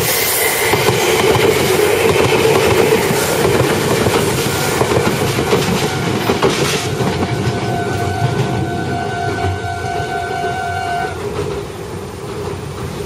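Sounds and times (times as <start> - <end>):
train wheels clattering over rail joints: 0.0 - 10.2, 11.1 - 13.0
train wheel squeal: 0.0 - 11.3.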